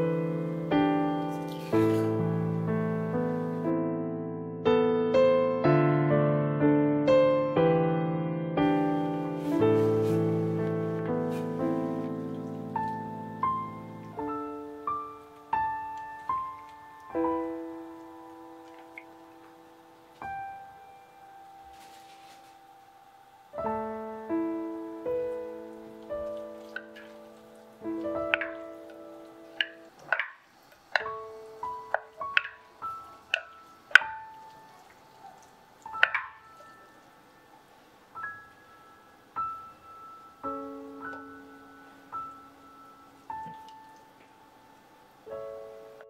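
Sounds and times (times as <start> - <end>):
slow solo piano: 0.0 - 46.0.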